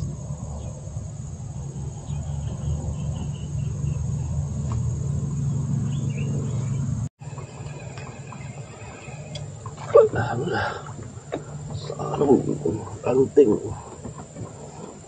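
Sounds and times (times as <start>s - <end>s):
insects chorus: 0.0s - 15.0s
low rumble: 0.0s - 15.0s.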